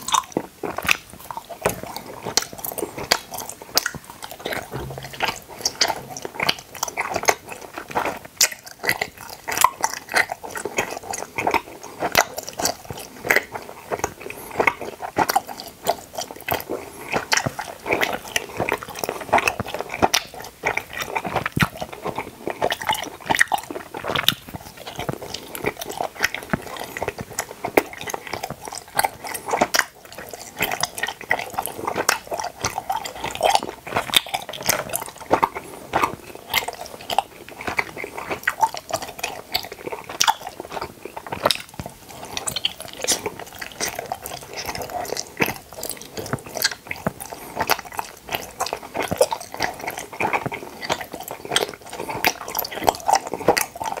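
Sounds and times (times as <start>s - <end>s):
chewing gummy candies: 0.0s - 54.0s.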